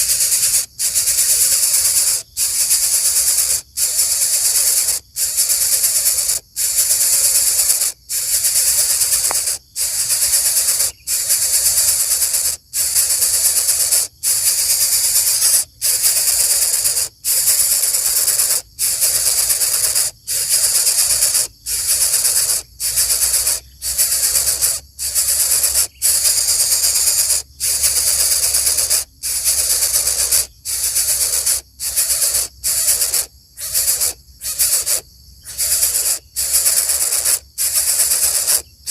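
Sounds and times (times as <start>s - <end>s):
bird chick hissing: 0.0s - 38.9s.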